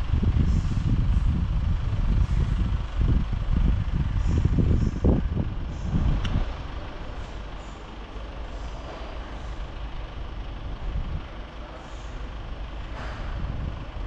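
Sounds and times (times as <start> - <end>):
heavy machine rumbling: 0.0 - 14.0.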